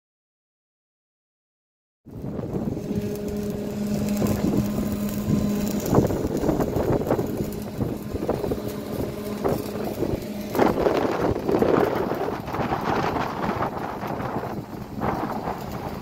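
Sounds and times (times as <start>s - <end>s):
steady low hum: 2.1s - 16.0s
welding arc crackling: 2.1s - 16.0s
wind buffeting microphone: 2.1s - 16.0s.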